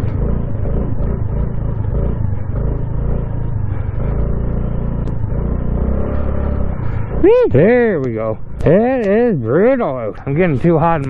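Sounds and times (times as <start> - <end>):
scooter engine running: 0.0 - 11.0
wind and road noise: 0.0 - 11.0.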